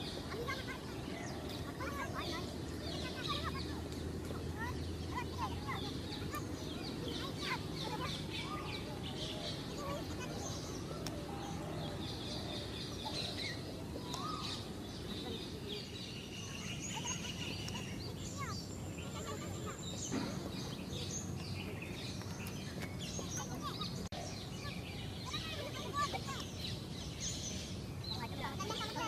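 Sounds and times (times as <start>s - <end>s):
people talking quietly: 0.0s - 29.0s
small birds chirping: 0.0s - 29.0s.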